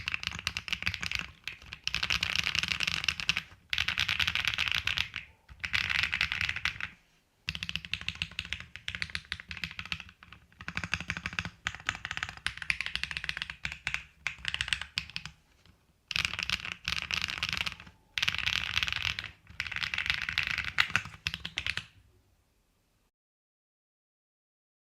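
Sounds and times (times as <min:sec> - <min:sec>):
mechanical keyboard typing: 0:00.0 - 0:15.4, 0:16.1 - 0:21.9.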